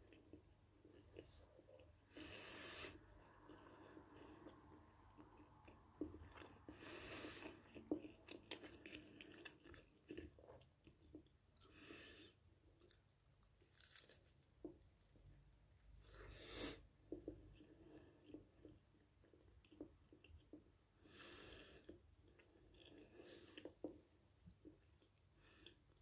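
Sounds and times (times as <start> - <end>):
chewing and crunching bread: 0.0 - 26.0.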